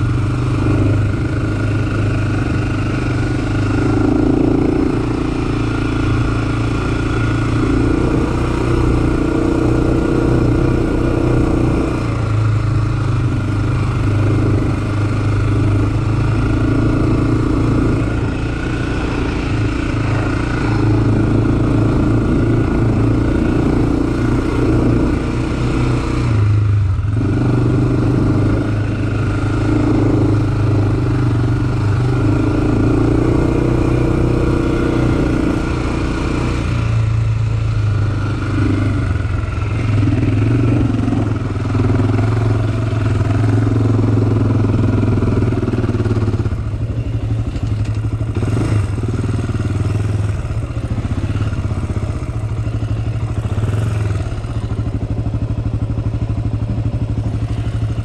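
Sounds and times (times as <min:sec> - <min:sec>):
quad bike engine revving: 0:00.0 - 0:58.0
quad bike rattling over rough ground: 0:00.0 - 0:58.0.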